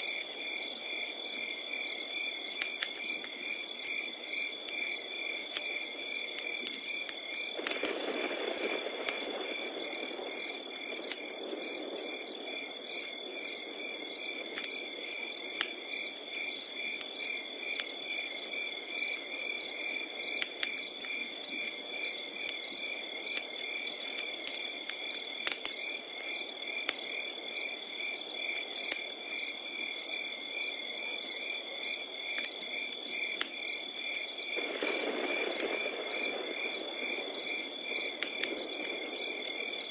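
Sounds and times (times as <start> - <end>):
campfire crackling and popping: 0.0 - 39.9
crickets chirping: 0.0 - 39.9
insects trilling: 0.0 - 39.9.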